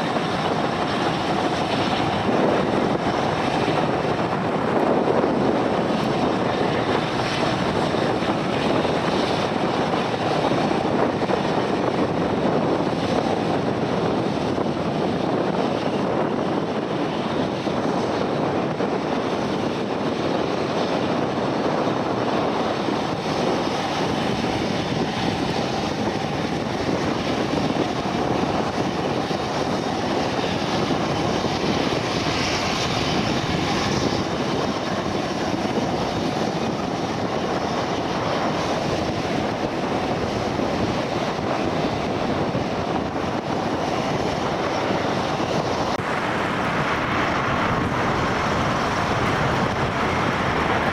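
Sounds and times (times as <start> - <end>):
airplane engine noise: 0.0 - 50.9.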